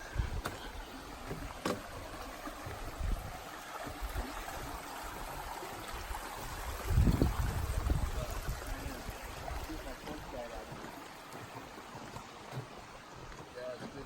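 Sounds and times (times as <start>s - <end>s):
stream running water: 0.0s - 14.0s.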